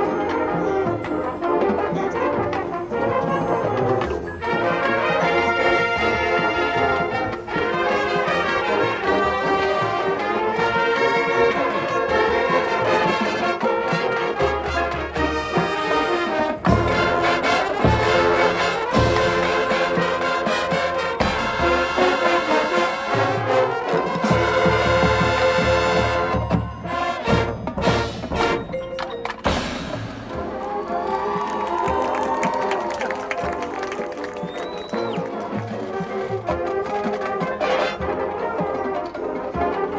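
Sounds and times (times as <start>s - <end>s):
marching band playing: 0.0s - 39.9s.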